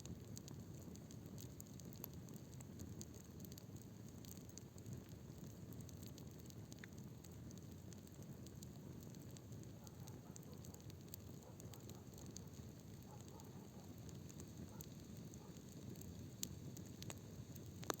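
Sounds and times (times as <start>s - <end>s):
bonfire crackling: 0.0s - 18.0s.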